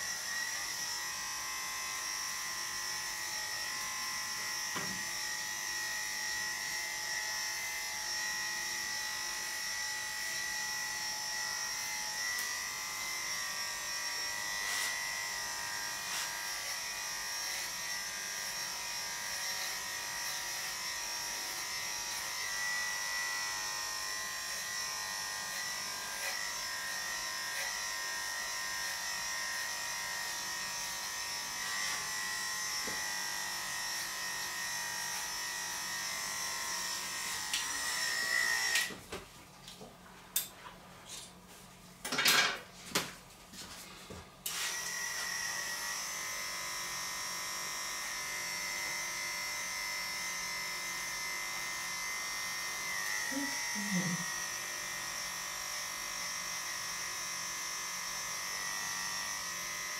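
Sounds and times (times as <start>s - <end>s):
electric clippers humming: 0.0s - 39.2s, 44.4s - 59.9s.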